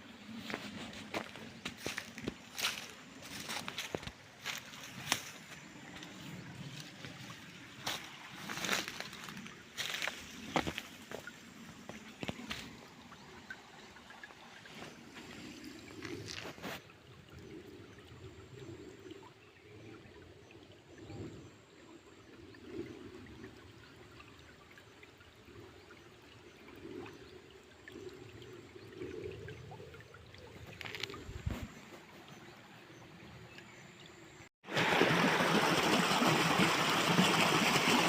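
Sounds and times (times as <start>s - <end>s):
flowing water gurgling: 0.0s - 38.0s.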